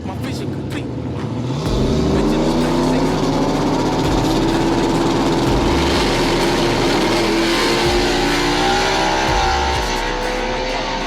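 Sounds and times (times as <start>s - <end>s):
race cars accelerating hard: 0.4s - 11.0s.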